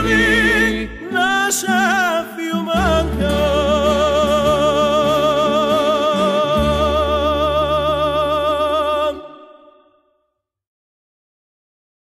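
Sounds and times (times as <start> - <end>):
vocal group holding a chord: 0.0 - 9.9.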